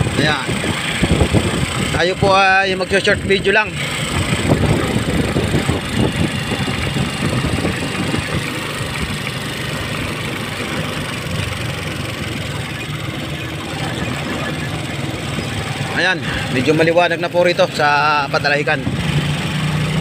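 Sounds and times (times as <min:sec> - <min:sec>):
road and wind noise: 0:00.0 - 0:20.0
vehicle engine hum: 0:00.0 - 0:20.0.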